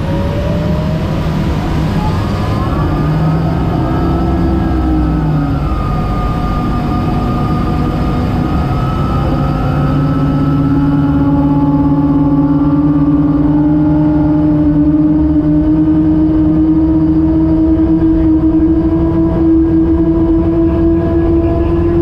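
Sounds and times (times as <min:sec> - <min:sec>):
gas turbine engines droning: 0:00.0 - 0:22.0.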